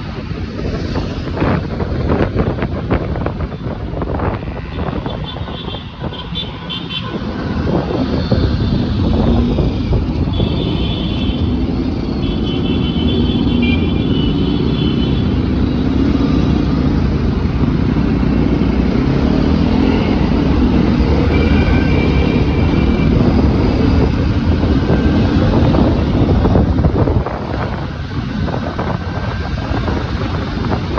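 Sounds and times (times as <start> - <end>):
wind rumble: 0.0 - 30.9.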